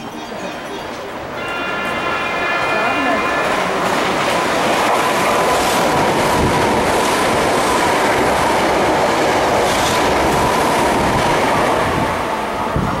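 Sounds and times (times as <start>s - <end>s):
electric train passing at speed: 0.0s - 13.0s.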